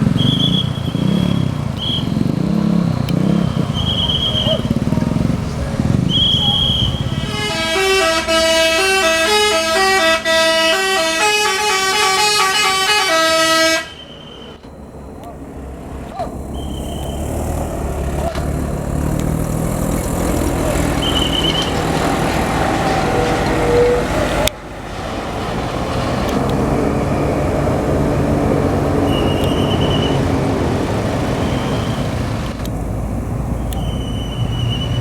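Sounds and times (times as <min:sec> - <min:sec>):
bus engines passing: 0:00.0 - 0:35.0.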